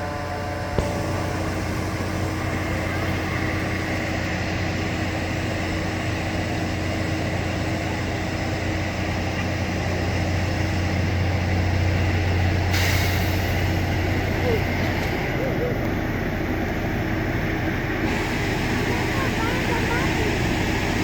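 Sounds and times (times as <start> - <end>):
machine engine running: 0.0 - 21.0.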